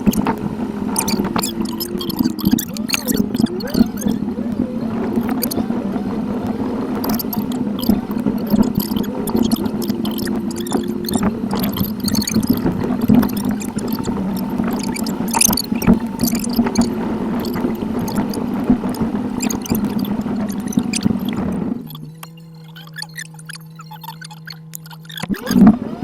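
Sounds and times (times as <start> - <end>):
clicks: 0.0 - 26.0
sped-up road and engine noise: 0.0 - 26.0
squeaky chirping glides: 0.0 - 26.0
steady hum: 0.0 - 26.0.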